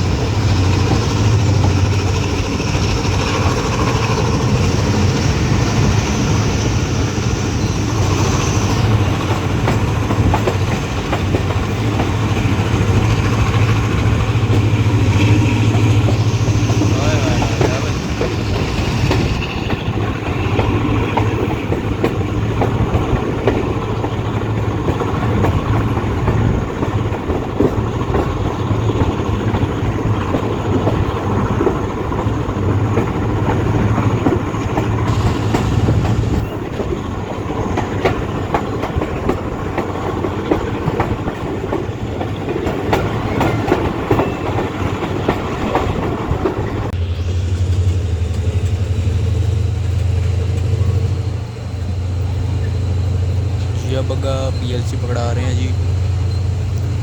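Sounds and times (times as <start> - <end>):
train rumble: 0.0 - 57.0
train wheels clattering: 0.0 - 57.0.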